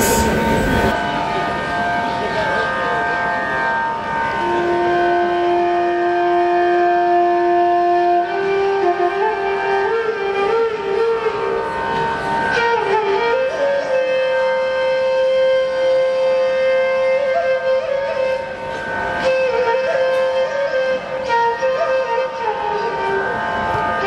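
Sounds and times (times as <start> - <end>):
slow ornamented melody: 0.0 - 10.4, 11.4 - 24.0.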